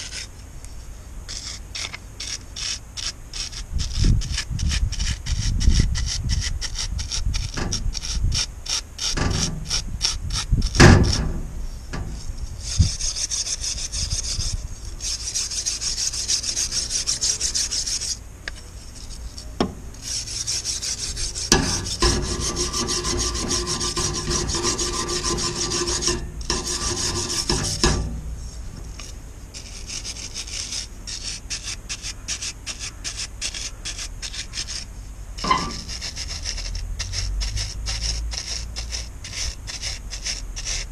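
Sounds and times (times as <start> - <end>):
wire brush scrubbing metal: 1.3 - 40.9.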